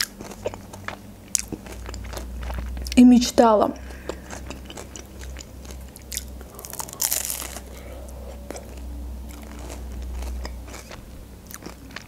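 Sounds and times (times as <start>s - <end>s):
chewing crisp pastry: 0.0s - 3.0s, 3.8s - 12.0s.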